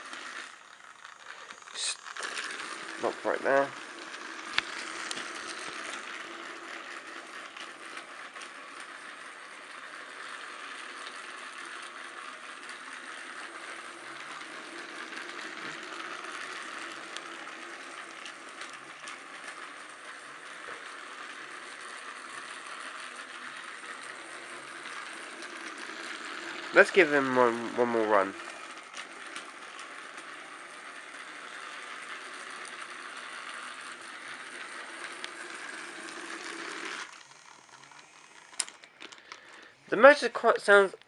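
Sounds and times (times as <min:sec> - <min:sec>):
toy train motor whirring: 0:00.0 - 0:41.0.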